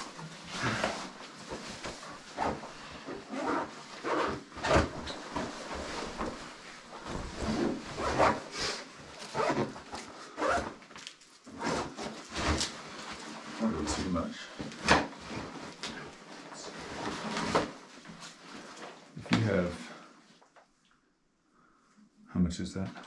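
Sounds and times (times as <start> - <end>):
backpacks and gear rustling: 0.0 - 19.6.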